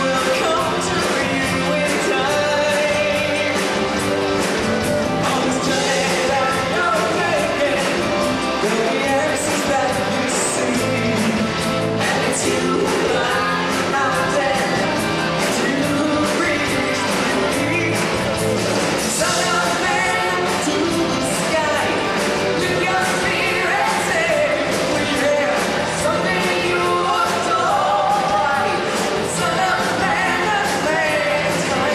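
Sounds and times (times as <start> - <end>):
amplified singing: 0.0 - 31.9
drum kit: 0.0 - 31.9
percussion: 0.0 - 31.9.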